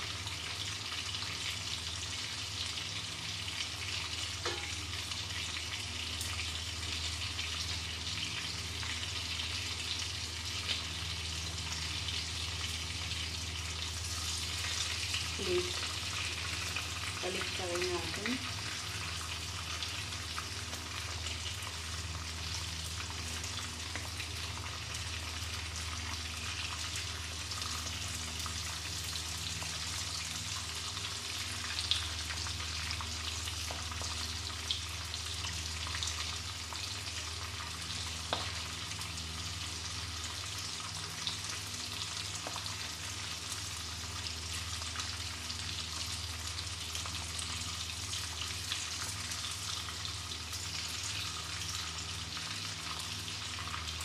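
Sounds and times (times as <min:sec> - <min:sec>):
prawns sizzling in hot oil: 0:00.0 - 0:54.0
sharp clicks in frying oil: 0:00.1 - 0:13.1, 0:18.4 - 0:54.0.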